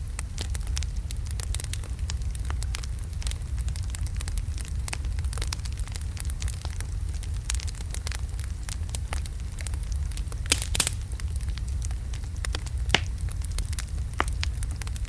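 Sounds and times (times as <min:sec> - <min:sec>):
wood logs crackling in fireplace: 0:00.0 - 0:15.0.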